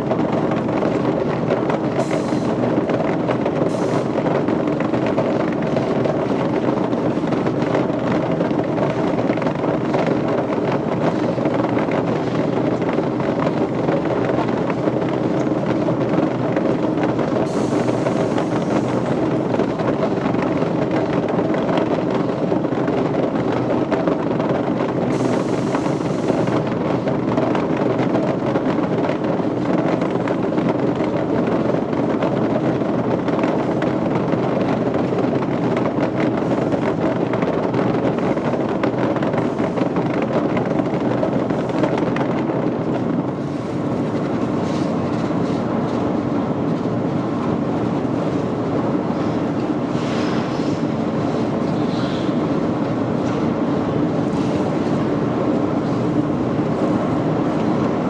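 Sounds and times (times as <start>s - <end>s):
dense rushing noise: 0.0s - 58.0s.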